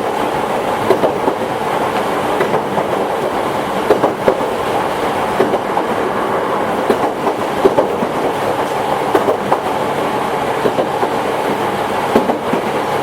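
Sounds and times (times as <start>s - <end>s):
electric train rolling: 0.0s - 13.0s
wheels clacking over rail joints: 0.0s - 13.0s.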